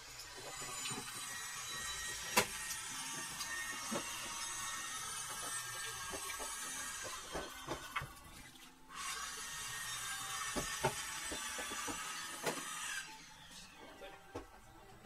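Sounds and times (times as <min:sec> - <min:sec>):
distant power saw cutting wood: 0:00.0 - 0:08.2, 0:08.9 - 0:14.4.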